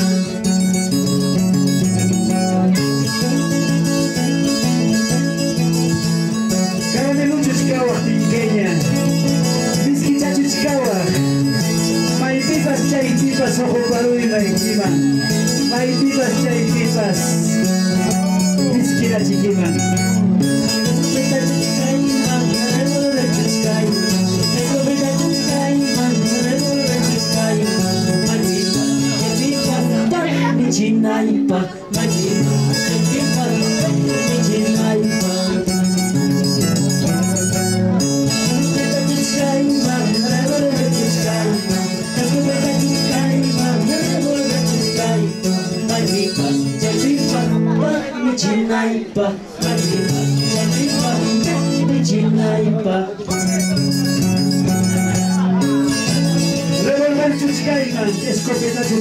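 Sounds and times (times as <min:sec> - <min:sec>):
folk guitar over loudspeaker: 0:00.0 - 0:59.0
man singing: 0:00.0 - 0:59.0.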